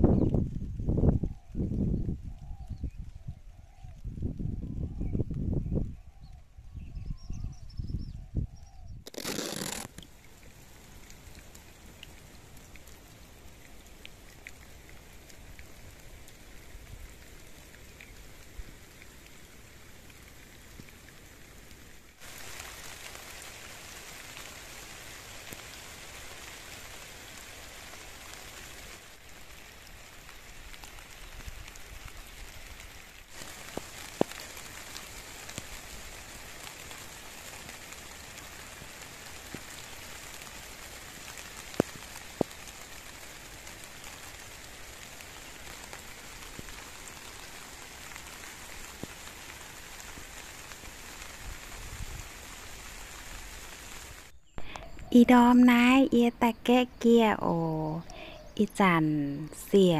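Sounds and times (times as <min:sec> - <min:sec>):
light rain on plants: 0:00.0 - 0:07.6, 0:08.2 - 0:59.9.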